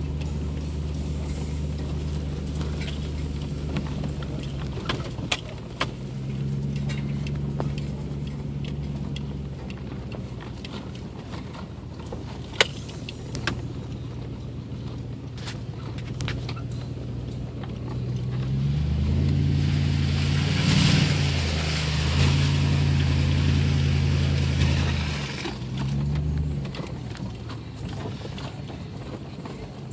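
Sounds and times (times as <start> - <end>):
truck engine revving: 0.0 - 29.9.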